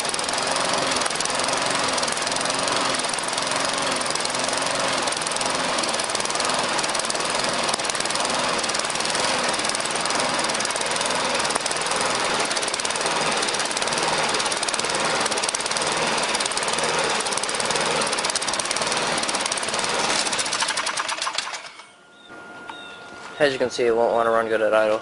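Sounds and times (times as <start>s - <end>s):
lawnmower engine running: 0.0s - 22.0s.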